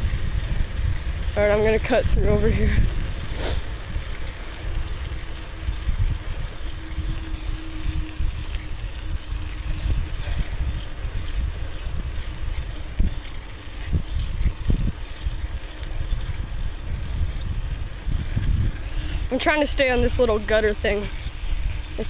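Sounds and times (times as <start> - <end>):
bicycle ride rumble: 0.0 - 22.0
wind buffeting microphone: 0.0 - 22.0.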